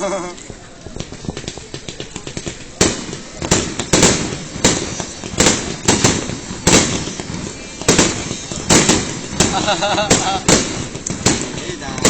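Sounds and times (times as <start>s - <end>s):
firework shells bursting: 0.3s - 12.0s.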